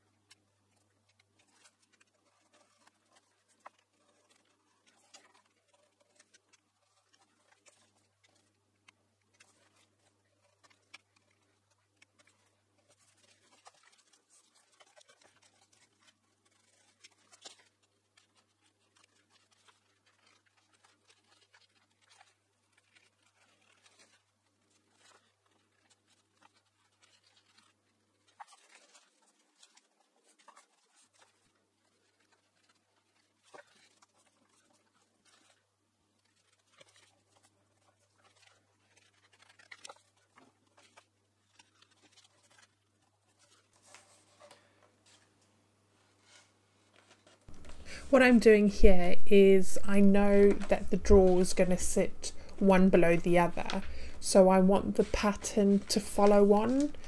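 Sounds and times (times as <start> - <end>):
wallpaper scratching and clicks: 0.0 - 57.0.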